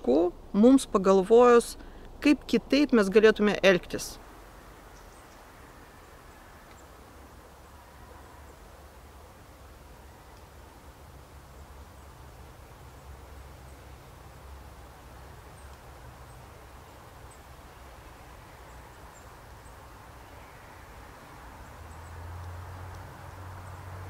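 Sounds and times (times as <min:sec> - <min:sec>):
low forest rumble with hiss: 0:00.0 - 0:24.0.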